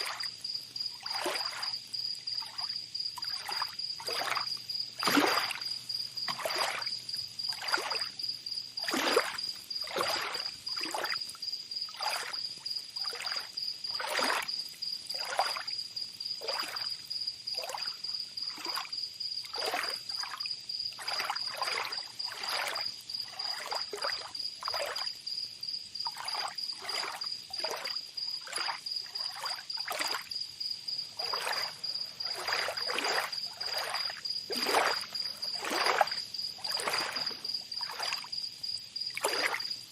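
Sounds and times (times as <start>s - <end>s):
small waves lapping: 0.0s - 15.8s, 16.4s - 25.2s, 26.0s - 39.9s
high insect trill: 0.0s - 39.9s.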